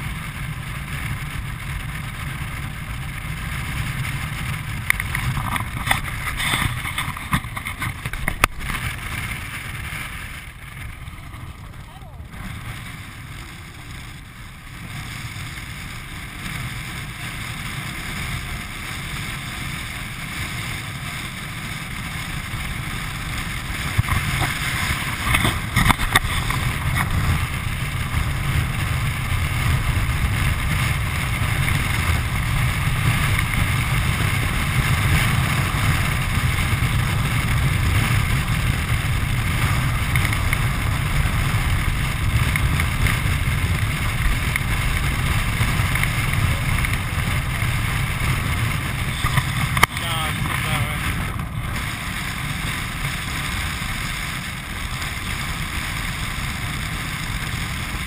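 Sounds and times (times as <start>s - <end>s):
land sailing cart rolling fast: 0.0s - 58.0s
wind buffeting microphone: 0.0s - 58.0s.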